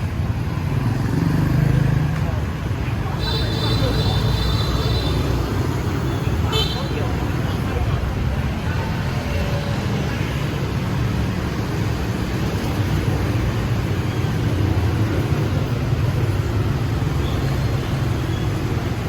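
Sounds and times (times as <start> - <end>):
passing motor vehicles: 0.0 - 19.0.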